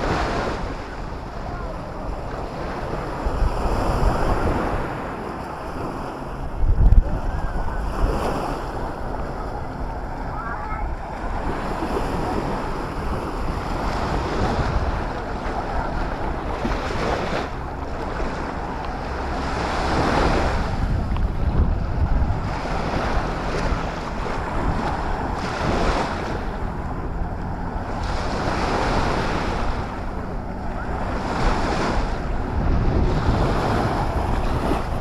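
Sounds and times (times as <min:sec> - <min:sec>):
waves breaking on beach: 0:00.0 - 0:35.0
wind rumbling on microphone: 0:00.0 - 0:35.0.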